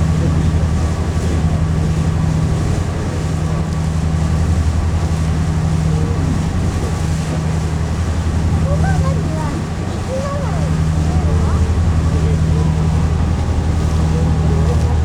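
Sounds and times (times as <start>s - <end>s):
ship engine throbbing drone: 0.0s - 15.0s.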